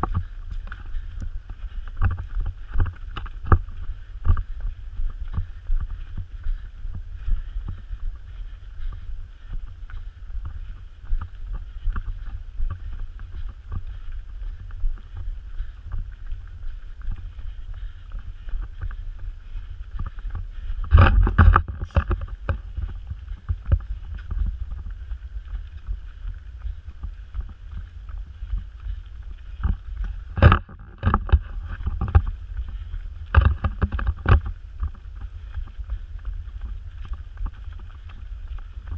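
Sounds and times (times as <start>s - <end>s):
wind rumble: 0.0s - 38.9s.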